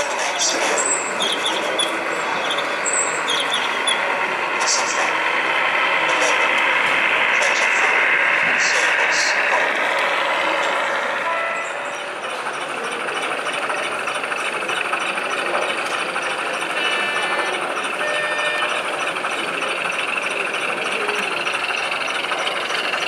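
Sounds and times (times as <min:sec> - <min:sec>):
crowd hubbub: 0:00.0 - 0:23.0
model train moving on track: 0:00.0 - 0:23.0.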